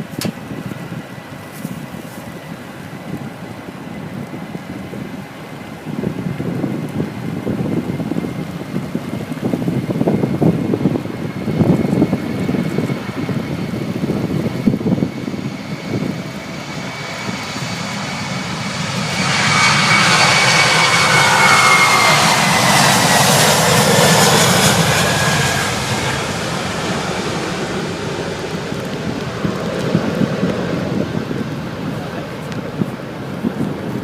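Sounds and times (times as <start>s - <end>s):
jet airliner passing: 0.0s - 34.0s
wind rumbling on microphone: 0.0s - 34.0s.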